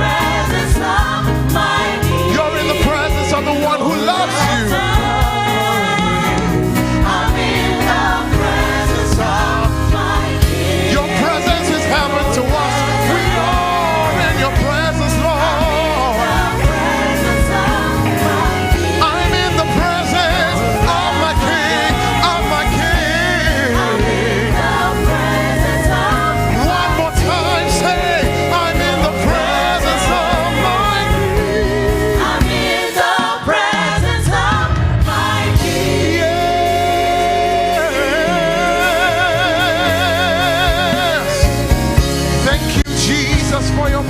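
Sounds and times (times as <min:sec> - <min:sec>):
backing singers: 0:00.0 - 0:44.0
gospel worship band playing: 0:00.0 - 0:44.0
lead singer with vibrato: 0:00.0 - 0:44.0.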